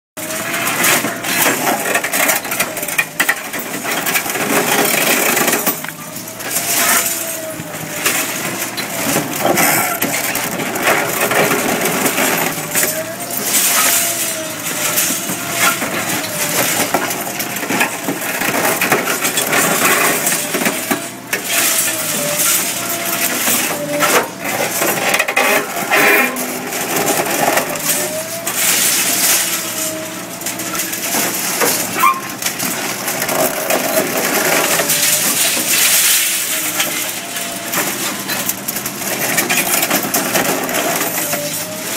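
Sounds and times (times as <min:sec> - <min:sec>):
concrete cracking and breaking: 0:00.2 - 0:41.9.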